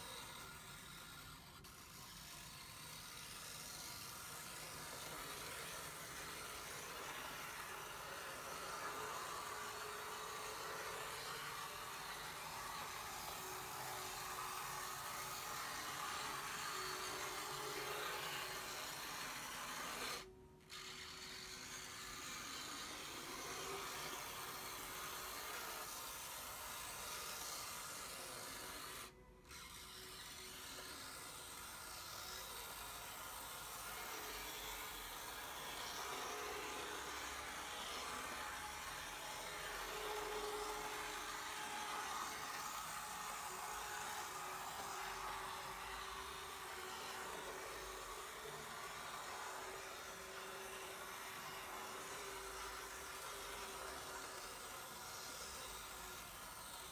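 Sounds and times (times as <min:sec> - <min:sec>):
small electric motor whirring: 0:00.0 - 0:56.9.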